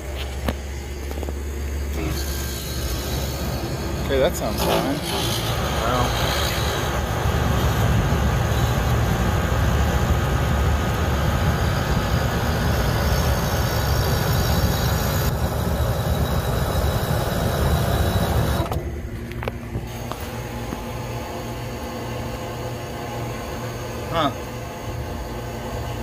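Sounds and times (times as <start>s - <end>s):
compressor humming: 0.0s - 26.0s.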